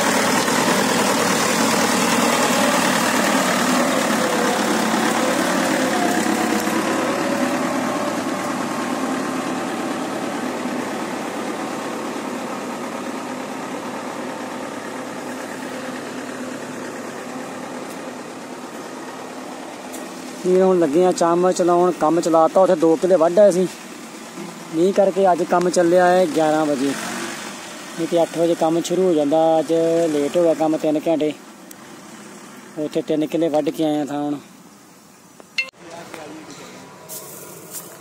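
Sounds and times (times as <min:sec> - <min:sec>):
combine harvester engine and machinery: 0:00.0 - 0:38.0.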